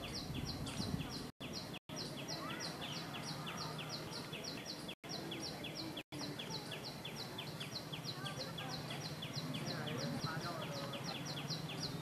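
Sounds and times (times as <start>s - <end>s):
high chirping: 0.0s - 12.0s
outdoor background noise: 0.0s - 12.0s.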